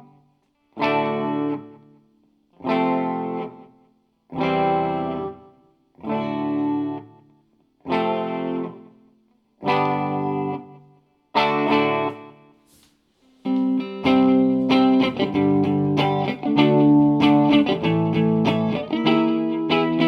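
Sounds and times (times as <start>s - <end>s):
guitar chords strummed: 0.0s - 2.0s, 2.6s - 9.0s, 9.6s - 12.5s, 13.4s - 20.0s.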